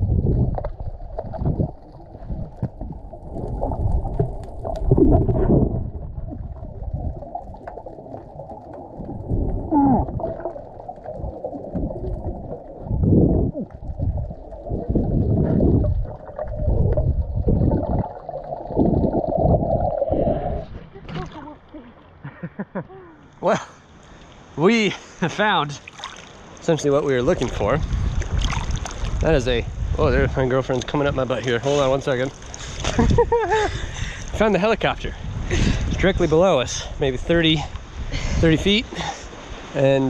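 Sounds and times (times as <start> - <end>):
muffled underwater water rush: 0.0 - 22.1, 25.4 - 40.0.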